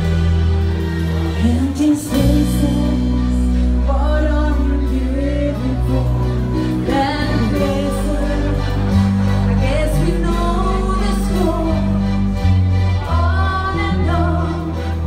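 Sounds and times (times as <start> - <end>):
lead melody with vibrato: 0.0 - 15.0
live band playing: 0.0 - 15.0.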